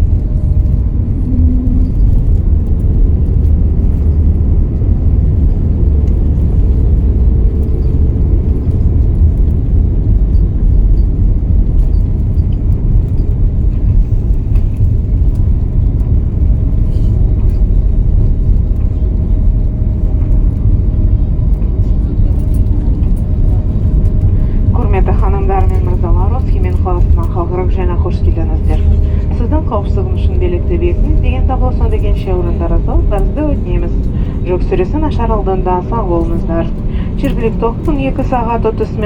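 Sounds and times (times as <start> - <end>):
airliner engines and airflow rumble: 0.0 - 39.0.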